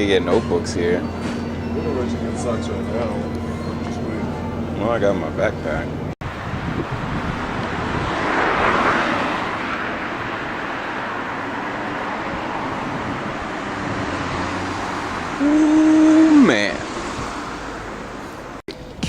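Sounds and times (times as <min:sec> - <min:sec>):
passing traffic rush: 0:00.0 - 0:18.6.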